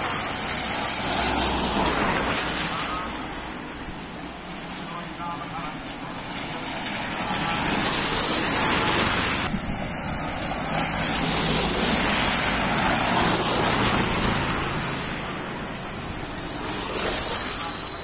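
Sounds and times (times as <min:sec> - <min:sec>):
tyres hissing on wet road: 0:00.0 - 0:18.0.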